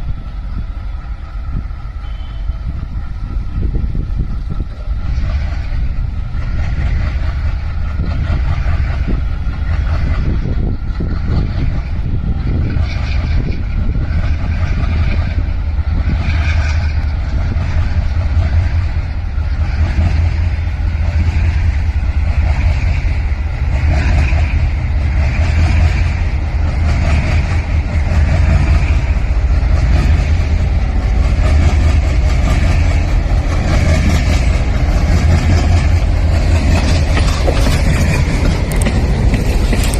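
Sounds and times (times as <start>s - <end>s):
diesel locomotive engines rumbling: 0.0s - 39.9s.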